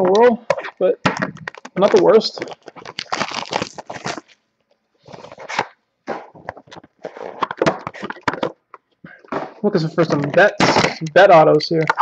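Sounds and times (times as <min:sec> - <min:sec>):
cards and packaging rustling: 0:00.0 - 0:04.4, 0:05.0 - 0:12.0.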